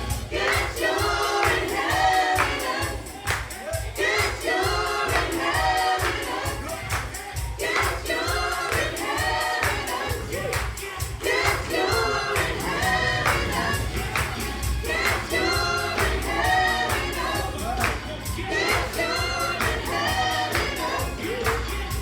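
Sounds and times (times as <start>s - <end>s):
choir singing gospel song: 0.0s - 22.0s.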